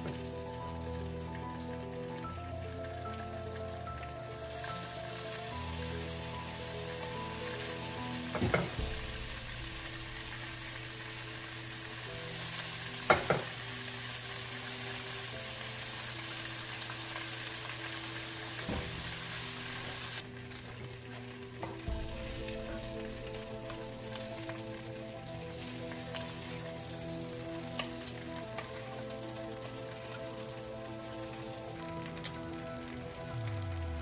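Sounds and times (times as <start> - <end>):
bacon sizzling in a frying pan: 0.0 - 34.0.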